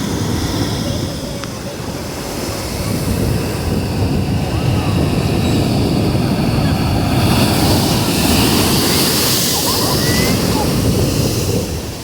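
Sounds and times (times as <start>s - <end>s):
sea waves breaking: 0.0s - 12.0s
wind buffeting microphone: 0.0s - 12.0s.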